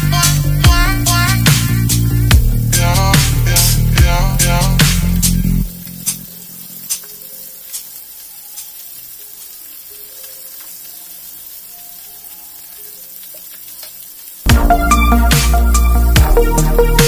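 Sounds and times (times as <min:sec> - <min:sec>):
fish sizzling in oil: 0:00.1 - 0:16.2
oil popping: 0:00.6 - 0:17.0.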